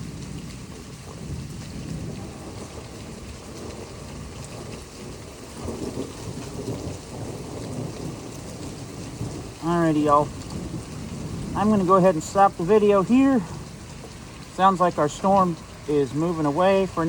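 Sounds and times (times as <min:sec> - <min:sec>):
distant thunder rumbling: 0:00.0 - 0:17.0
rain falling: 0:00.0 - 0:17.0.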